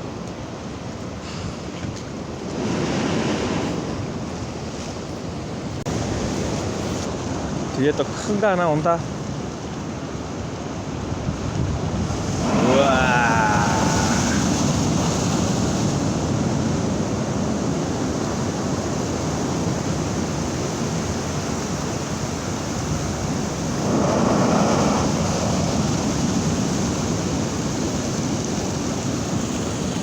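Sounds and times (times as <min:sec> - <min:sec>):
waves crashing surf: 0:00.0 - 0:30.0.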